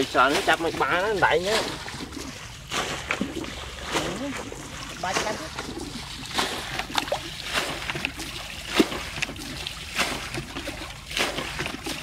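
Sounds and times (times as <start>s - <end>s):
hands squelching in wet mud: 0.0s - 12.0s
wet slaps and splashes: 0.0s - 12.0s.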